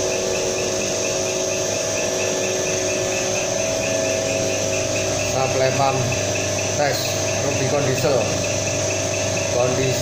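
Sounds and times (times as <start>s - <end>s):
machine hum with faint ticking: 0.0s - 10.0s.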